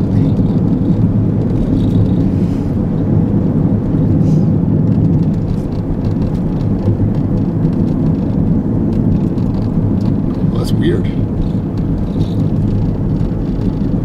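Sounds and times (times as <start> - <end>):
tyre and engine road noise: 0.0 - 14.0.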